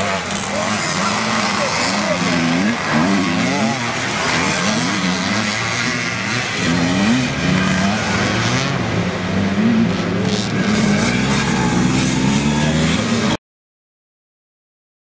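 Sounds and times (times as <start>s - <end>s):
motorcycle engines revving: 0.0s - 13.4s.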